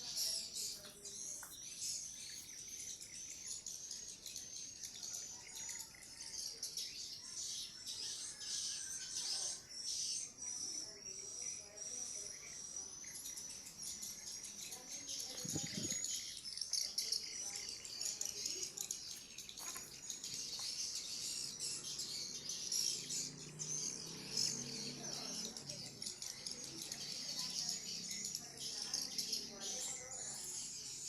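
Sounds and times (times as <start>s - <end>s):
high-pitched chirping and twittering: 0.0s - 31.0s.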